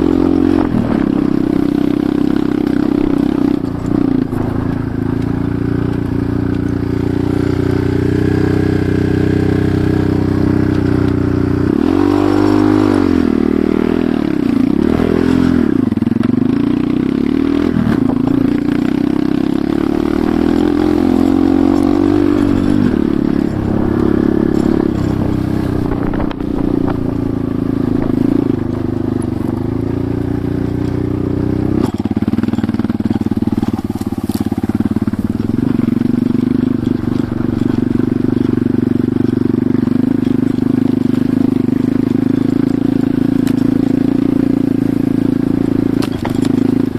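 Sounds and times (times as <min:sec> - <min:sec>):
motorcycle engine revving while riding: 0:00.0 - 0:46.9.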